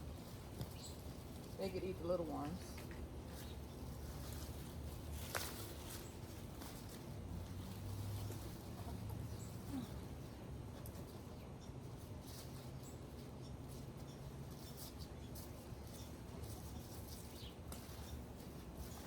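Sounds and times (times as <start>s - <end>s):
chickens pecking and scratching: 0.0s - 19.0s
low steady rumble: 0.0s - 19.0s.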